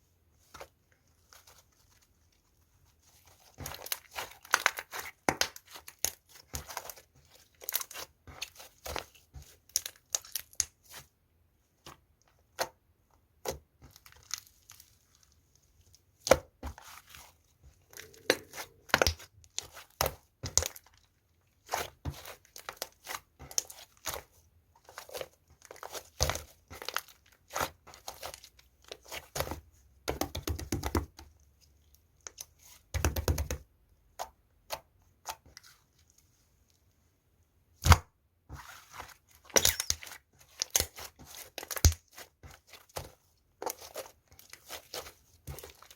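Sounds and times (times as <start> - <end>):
slime being kneaded by hand: 0.4 - 11.2, 11.8 - 36.5, 37.7 - 45.9.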